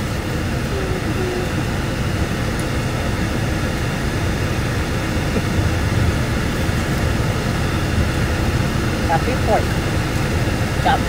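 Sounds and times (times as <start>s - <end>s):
running vehicle rumble and hiss: 0.0s - 11.0s.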